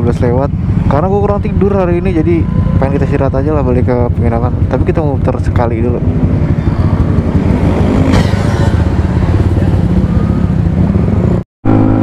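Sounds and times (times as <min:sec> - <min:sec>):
scooter engines running: 0:00.0 - 0:12.0.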